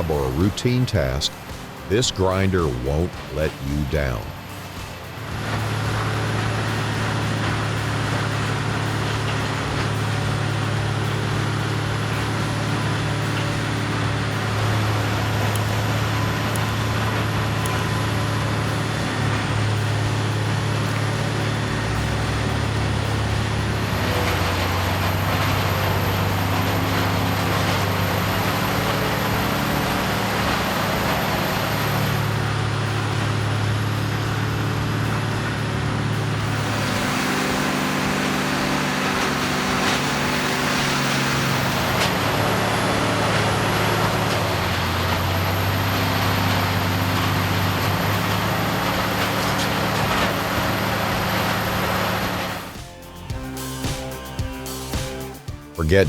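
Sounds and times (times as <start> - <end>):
heavy machinery engine under load: 5.2 - 52.8.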